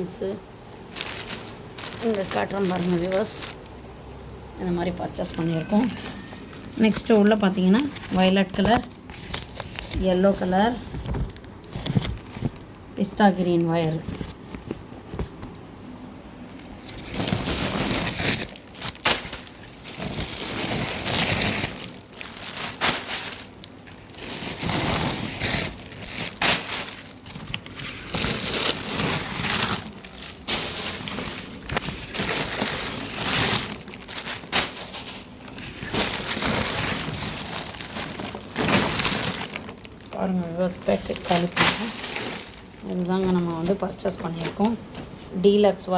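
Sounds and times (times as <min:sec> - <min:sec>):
plastic packaging crinkling: 0:00.6 - 0:14.5, 0:16.6 - 0:44.8.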